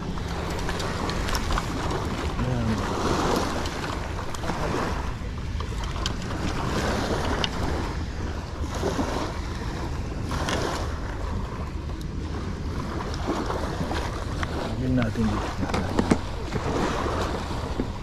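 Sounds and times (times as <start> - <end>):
small waves washing onto beach: 0.0 - 18.0
wind buffeting microphone: 0.0 - 18.0.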